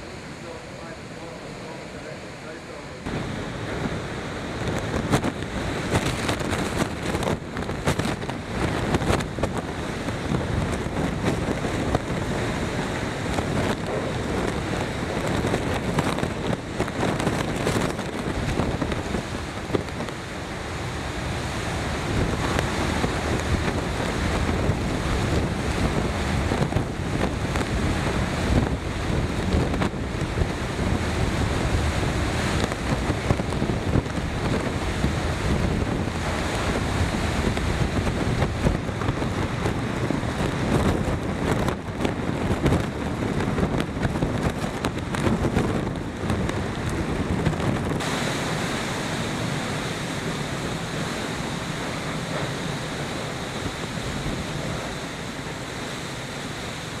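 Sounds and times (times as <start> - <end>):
driving rain: 0.0 - 57.0
gusts buffeting microphone: 0.0 - 57.0
hurricane wind: 0.0 - 57.0.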